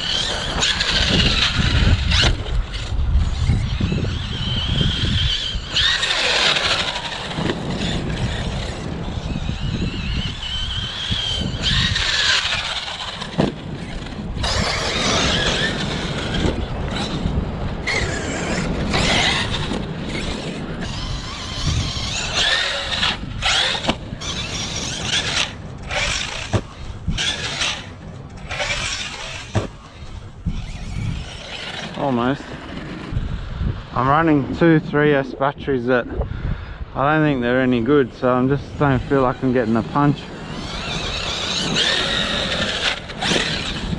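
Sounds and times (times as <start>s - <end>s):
electric motor whining: 0.0s - 33.4s, 37.2s - 43.9s.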